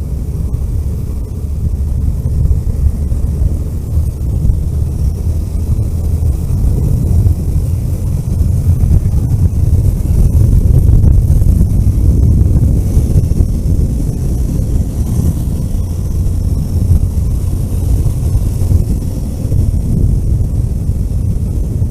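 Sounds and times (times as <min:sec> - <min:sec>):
vehicle engine and road noise: 0:00.0 - 0:21.9
wind buffeting microphone: 0:00.0 - 0:21.9.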